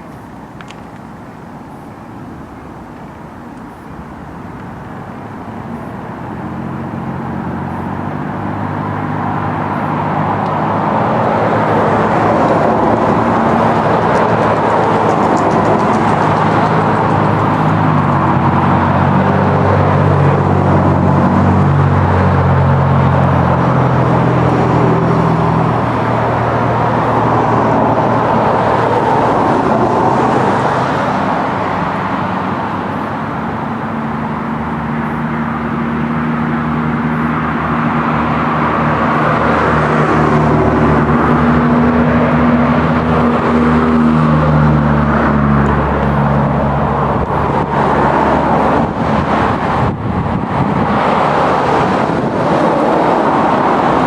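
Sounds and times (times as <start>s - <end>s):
vehicle engine passing: 1.7s - 54.0s.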